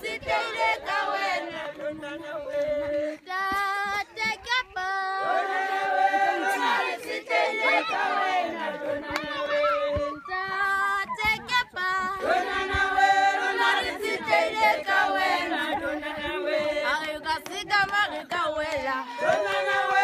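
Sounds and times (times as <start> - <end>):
women singing unaccompanied: 0.0 - 20.0.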